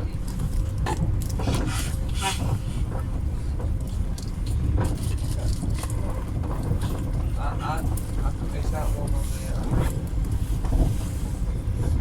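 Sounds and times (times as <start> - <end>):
train interior low rumble: 0.0 - 12.0.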